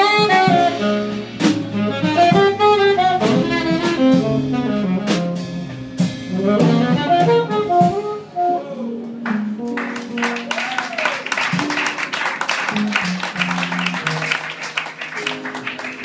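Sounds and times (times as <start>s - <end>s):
double bass: 0.0s - 10.6s, 12.7s - 15.4s
drum kit: 0.0s - 16.0s
saxophone melody: 0.0s - 16.0s.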